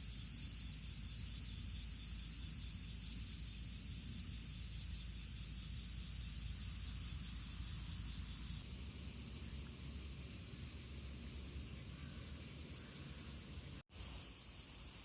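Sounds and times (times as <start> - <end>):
faint hiss: 0.0 - 15.0
insects trilling: 0.0 - 15.0.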